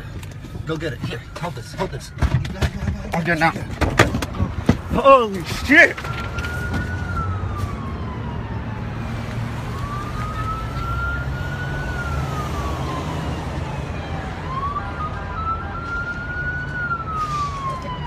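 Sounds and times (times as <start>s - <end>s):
emergency siren wailing: 0.0s - 4.0s, 4.9s - 18.0s.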